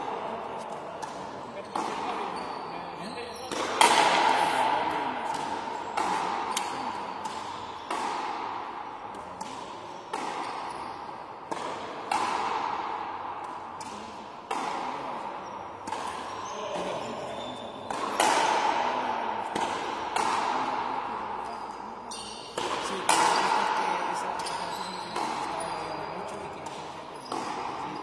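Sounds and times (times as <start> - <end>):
ball knocks echoing in hall: 0.0 - 28.0.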